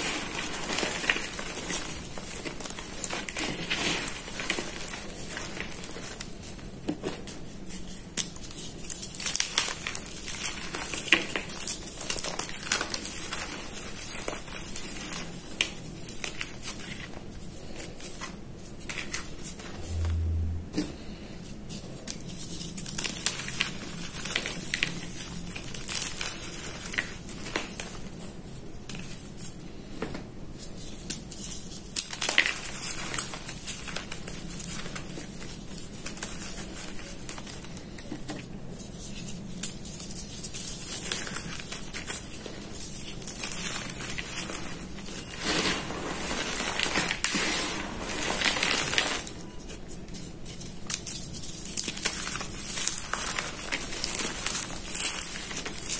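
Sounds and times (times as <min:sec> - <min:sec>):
chalk crumbling and crunching: 0:00.0 - 0:20.0, 0:21.4 - 0:29.9, 0:30.6 - 0:55.9.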